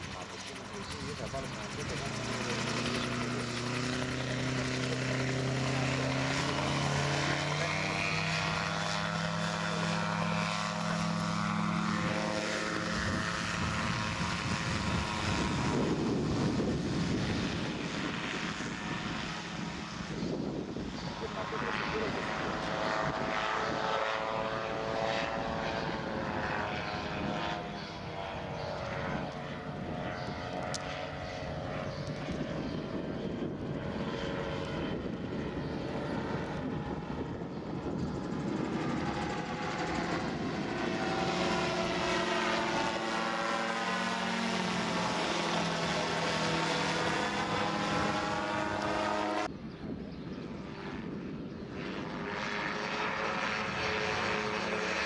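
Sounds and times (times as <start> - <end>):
gyroplane engine droning: 0.0 - 49.5
second gyroplane engine drone: 0.0 - 55.0.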